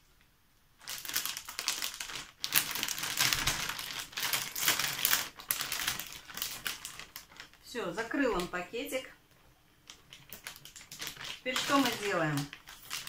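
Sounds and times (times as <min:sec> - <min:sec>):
plastic bag crinkling: 0:00.8 - 0:08.6, 0:09.8 - 0:13.0.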